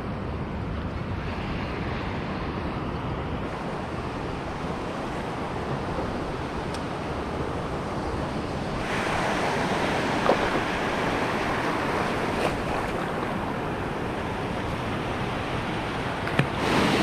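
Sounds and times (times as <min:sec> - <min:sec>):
wind on microphone: 0:00.0 - 0:17.0
sea surf washing on shore: 0:01.1 - 0:17.0.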